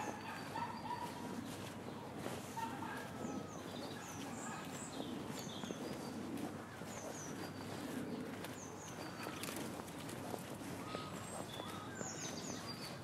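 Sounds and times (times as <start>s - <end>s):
footsteps on a path: 0.0s - 13.0s
small birds chirping: 0.0s - 13.0s.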